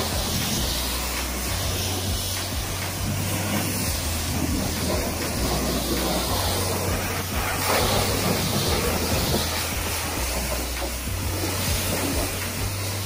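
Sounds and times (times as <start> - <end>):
low hum: 0.0 - 13.0
pressure washer spraying water: 0.0 - 13.0.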